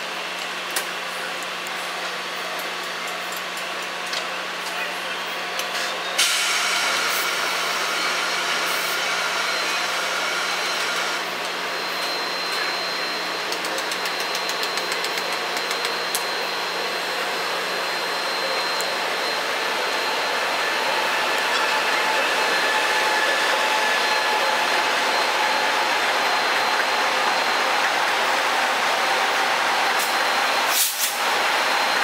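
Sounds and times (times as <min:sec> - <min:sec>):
train running: 0:00.0 - 0:32.0
thin high whine: 0:05.8 - 0:32.0.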